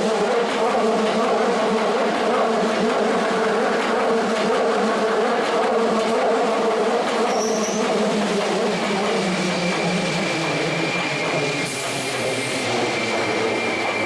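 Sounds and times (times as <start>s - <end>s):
electric train rumble: 0.0s - 14.0s.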